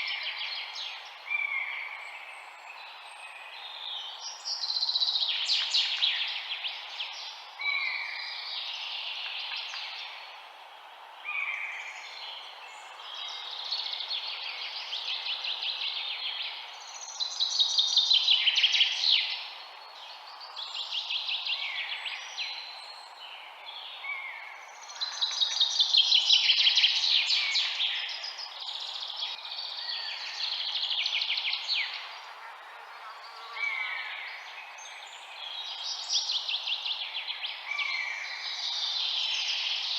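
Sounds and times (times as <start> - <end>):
songbirds singing trills: 0.0 - 10.5, 11.2 - 39.9
steady background hiss: 0.0 - 39.9.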